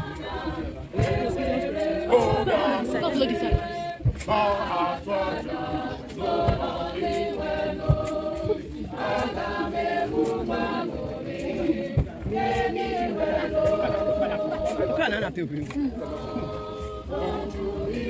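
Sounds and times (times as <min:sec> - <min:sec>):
dull low thuds: 0:00.0 - 0:15.0
group singing unaccompanied: 0:00.0 - 0:18.0.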